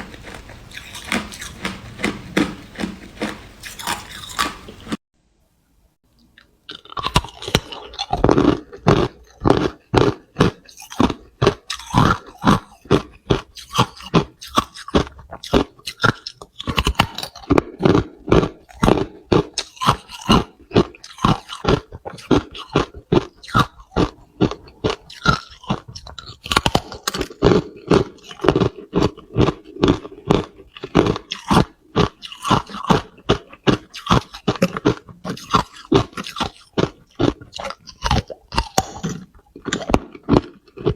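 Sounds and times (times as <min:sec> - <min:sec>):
ice crunching between teeth: 0:00.0 - 0:05.0, 0:06.4 - 0:40.9.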